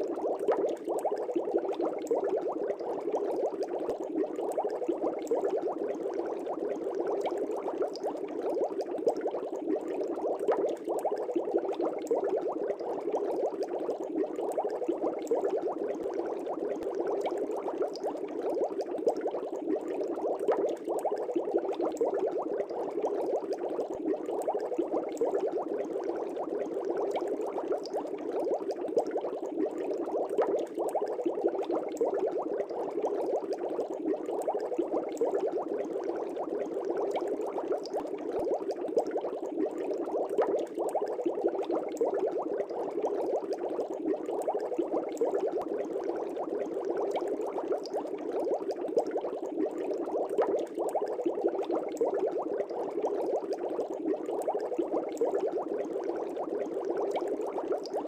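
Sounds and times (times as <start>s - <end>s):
aquarium air bubbling: 0.0s - 58.0s.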